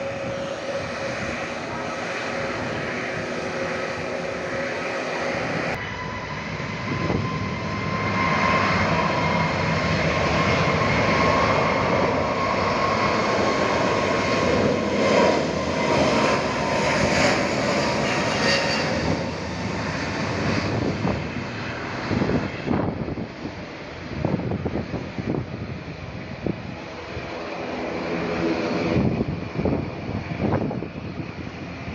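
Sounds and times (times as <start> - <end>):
jet engines whining: 0.0 - 31.9.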